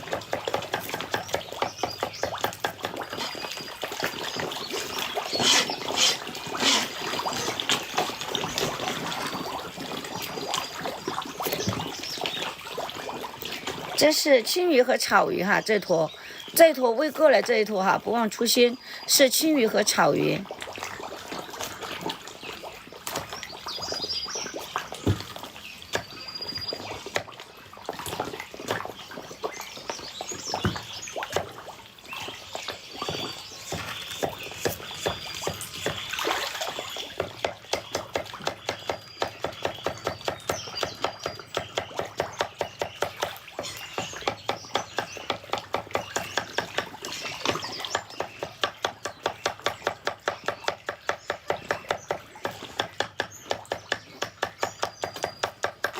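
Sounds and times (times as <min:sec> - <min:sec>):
fish splashing and slurping: 0:00.0 - 0:55.9.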